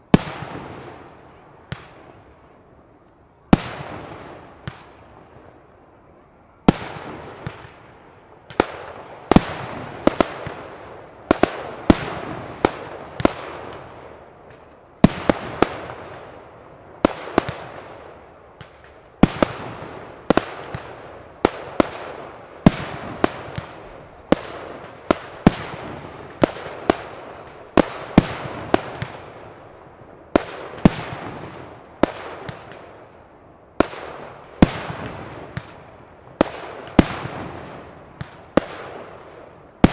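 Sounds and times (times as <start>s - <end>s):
fireworks bangs: 0.1s - 2.3s, 3.5s - 5.6s, 6.6s - 33.1s, 33.7s - 39.9s.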